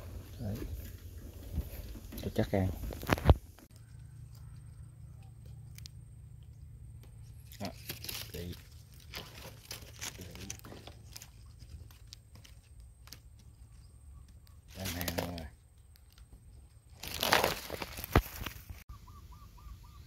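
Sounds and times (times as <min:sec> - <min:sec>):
rustling and crackling of handling: 0:00.0 - 0:18.9.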